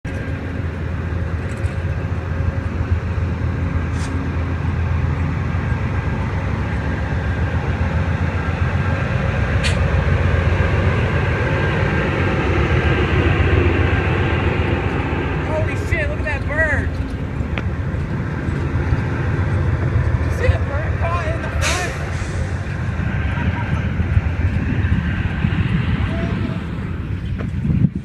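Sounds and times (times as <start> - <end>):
diesel locomotive rumbling: 0.0 - 28.0.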